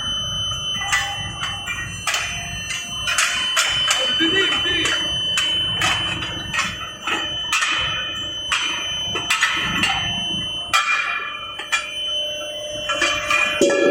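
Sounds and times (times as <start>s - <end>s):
high-pitched machine whine: 0.0s - 13.9s
metallic clanks ringing: 0.0s - 13.9s.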